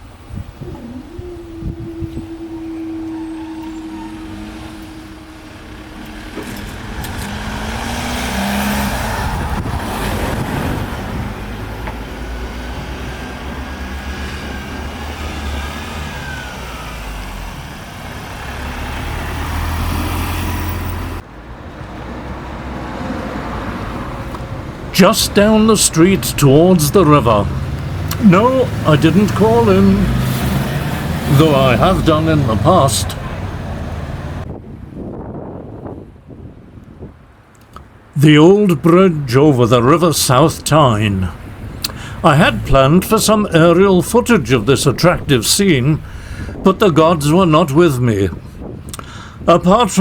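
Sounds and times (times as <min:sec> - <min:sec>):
vehicles driving past: 0:00.0 - 0:50.0.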